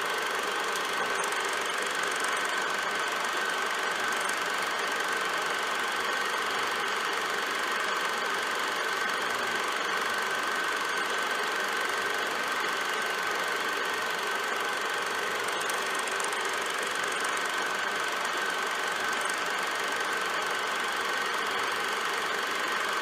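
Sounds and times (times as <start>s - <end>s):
film projector whirring: 0.0s - 23.0s.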